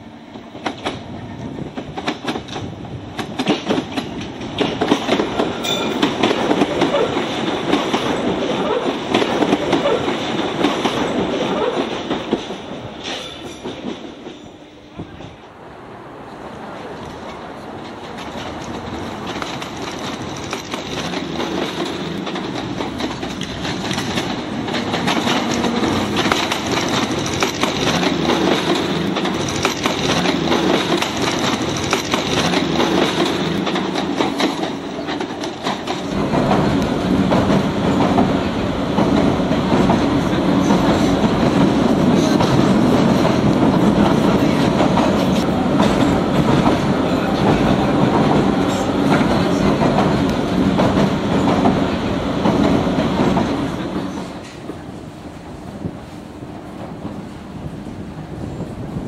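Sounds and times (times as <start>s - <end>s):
deep train rumble: 0.0s - 59.0s
train wheels clickety-clack: 0.3s - 15.4s, 16.9s - 59.0s.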